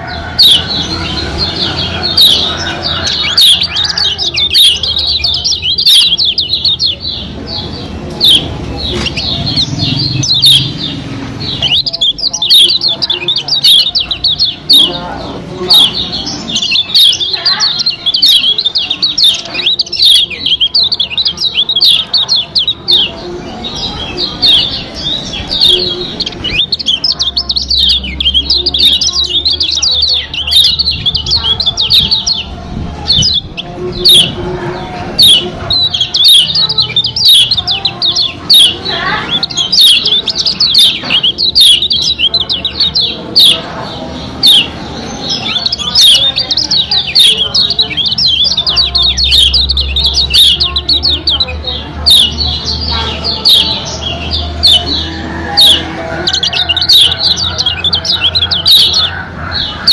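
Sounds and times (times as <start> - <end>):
white-eye bird twittering: 0.4 - 34.4, 35.0 - 59.9.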